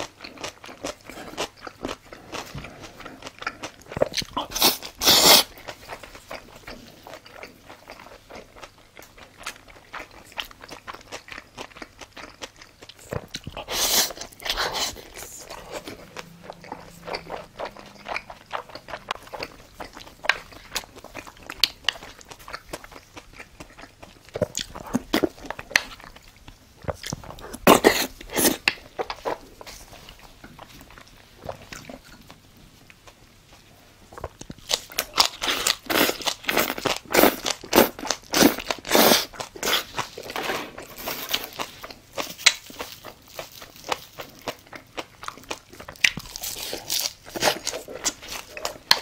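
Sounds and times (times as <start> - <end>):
wet chewing and biting: 0.0 - 32.4, 34.1 - 49.0.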